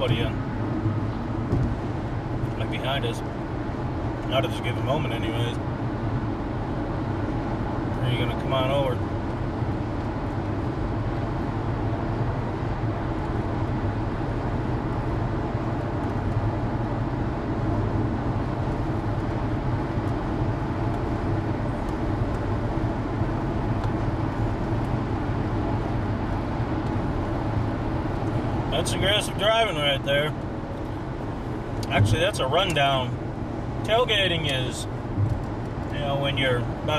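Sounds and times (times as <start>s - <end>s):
engine and road noise inside vehicle: 0.0s - 36.9s.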